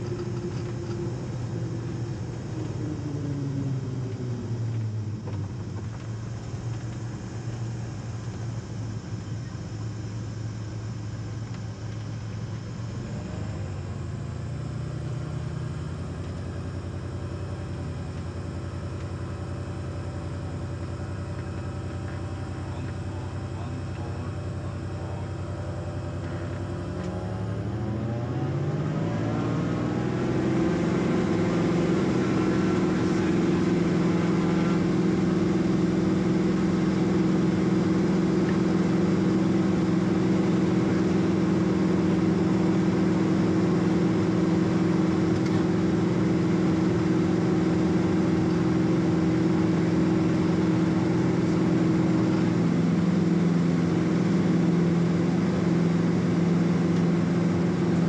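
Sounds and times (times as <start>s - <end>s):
airplane engine and propeller: 0.0s - 58.0s.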